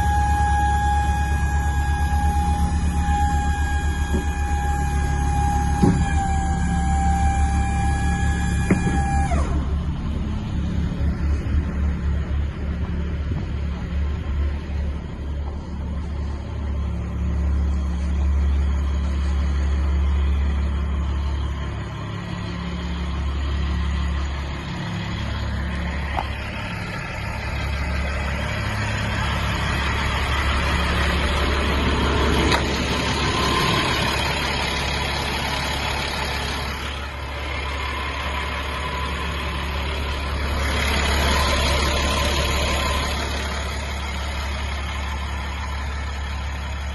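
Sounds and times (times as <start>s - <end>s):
diesel truck engine humming: 0.0s - 46.9s
rushing road and wind noise: 8.4s - 46.9s.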